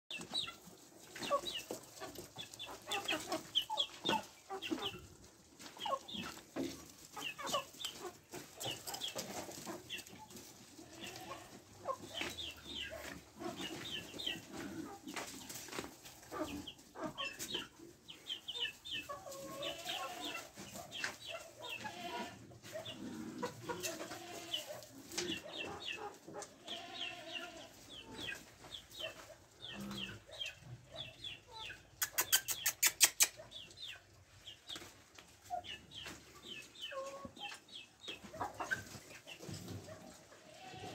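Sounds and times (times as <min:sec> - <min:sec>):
chickens clucking: 0:00.1 - 0:40.9.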